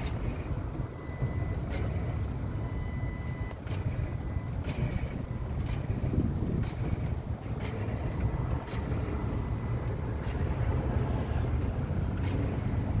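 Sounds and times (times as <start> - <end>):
low wind rumble on microphone: 0.0 - 13.0.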